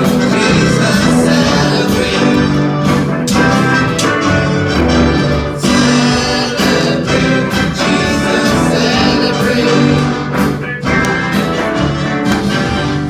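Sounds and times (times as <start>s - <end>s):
worship band with singing: 0.0s - 12.8s.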